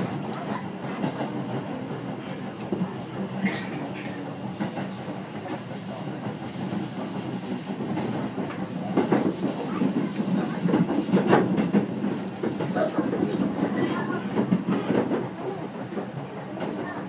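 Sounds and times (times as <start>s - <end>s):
train running gear hum: 0.0s - 17.0s.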